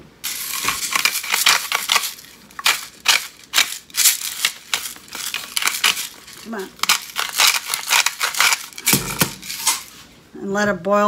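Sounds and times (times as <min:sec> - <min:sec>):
salt rattling in shaker: 0:00.2 - 0:10.0.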